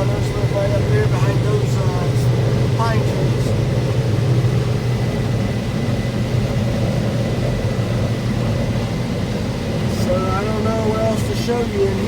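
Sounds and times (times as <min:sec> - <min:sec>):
combine harvester engine droning: 0:00.0 - 0:12.0.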